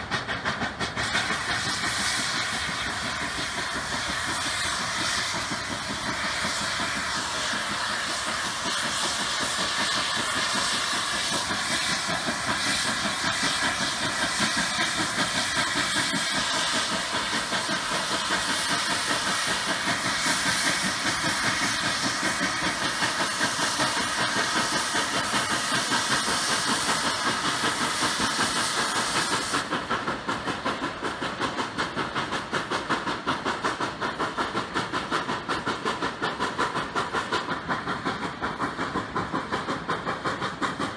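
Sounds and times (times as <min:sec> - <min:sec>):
steam hissing: 0:00.0 - 0:40.9
steam locomotive chuffing: 0:00.0 - 0:40.9.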